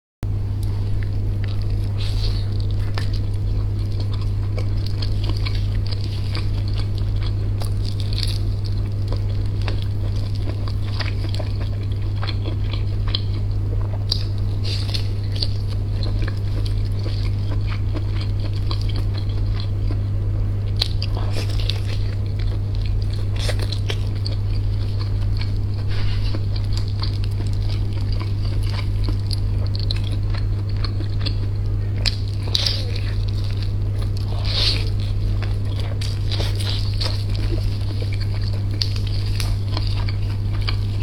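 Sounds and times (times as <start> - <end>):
low steady hum: 0.2 - 41.0
wet chewing and crunchy bites: 0.3 - 41.0.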